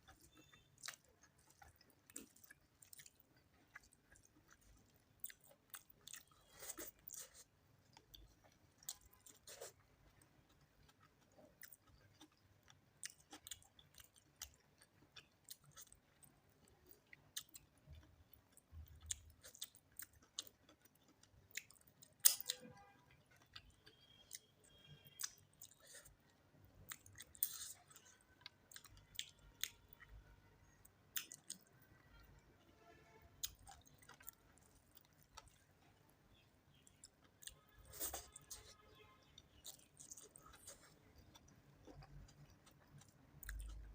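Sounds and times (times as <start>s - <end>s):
person chewing food: 0.0s - 32.3s, 33.4s - 43.9s.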